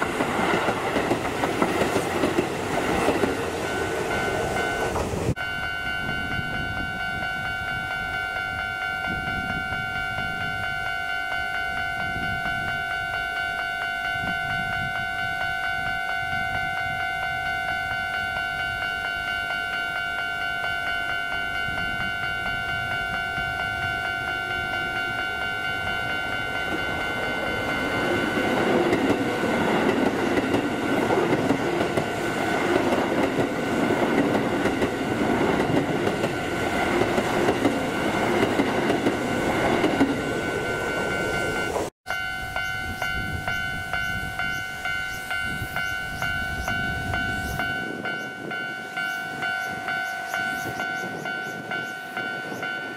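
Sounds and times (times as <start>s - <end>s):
electric train passing: 0.0s - 52.9s
steady high-pitched tone: 0.0s - 52.9s.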